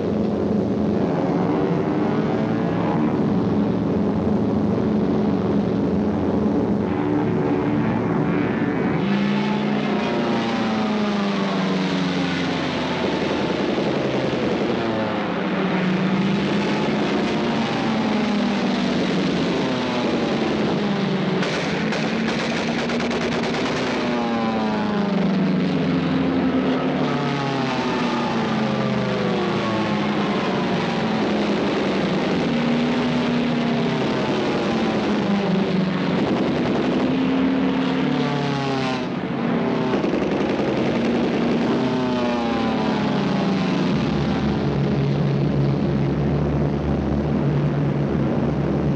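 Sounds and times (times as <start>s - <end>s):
steady rumble: 0.0s - 38.4s, 39.0s - 48.9s
propeller planes diving past: 0.0s - 48.9s.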